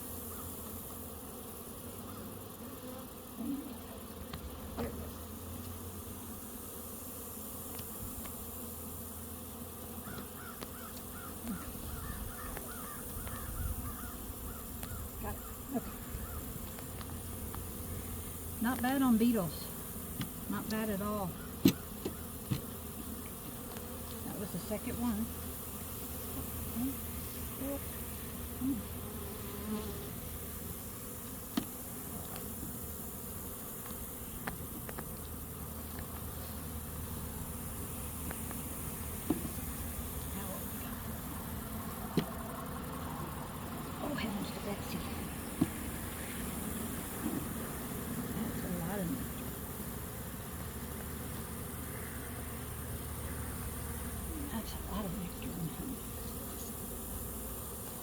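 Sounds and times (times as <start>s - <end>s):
honey bees humming: 0.0s - 58.0s.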